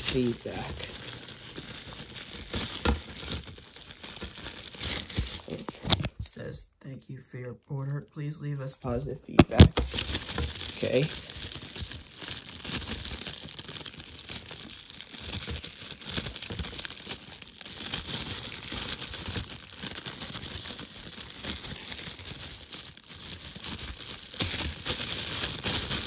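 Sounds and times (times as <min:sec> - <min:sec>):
packaging tearing: 0:00.0 - 0:06.2, 0:07.8 - 0:26.0
packaging crinkling and rustling: 0:00.0 - 0:06.5, 0:07.4 - 0:26.0.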